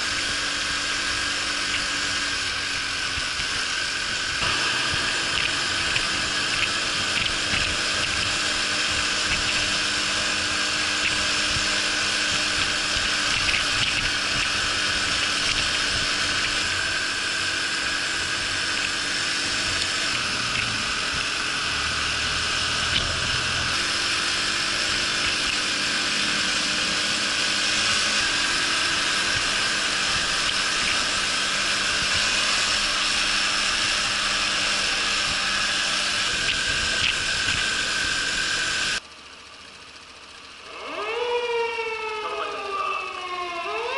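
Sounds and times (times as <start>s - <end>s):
wind rush and road hiss: 0.0s - 39.0s
moped engine running: 0.0s - 43.9s.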